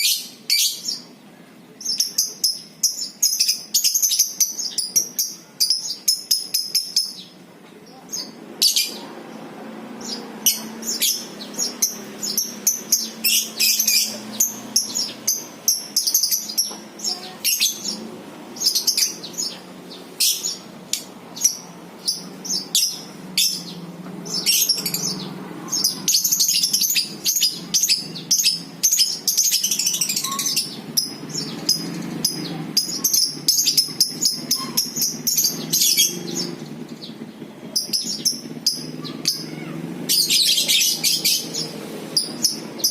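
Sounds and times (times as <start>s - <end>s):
lovebirds chattering song: 0.0s - 42.9s.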